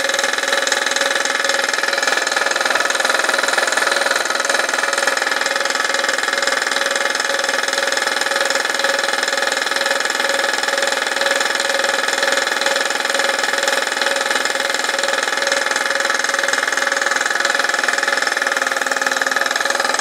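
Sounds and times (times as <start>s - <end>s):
air compressor running: 0.0s - 20.0s.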